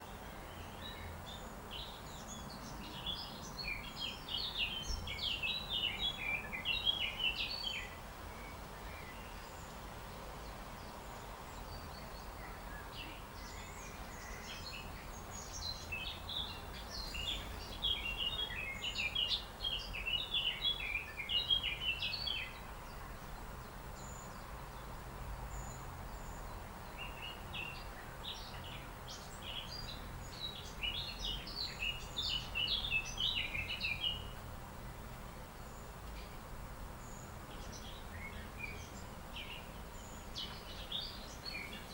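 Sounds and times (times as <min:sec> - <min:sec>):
low outdoor background noise: 0:00.0 - 0:41.9.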